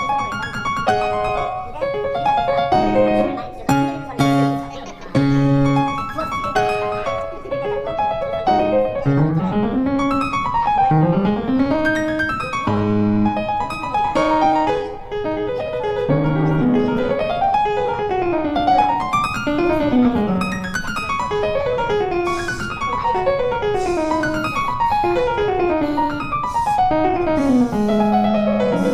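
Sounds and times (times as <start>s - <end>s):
piano playing quick runs: 0.0s - 28.9s.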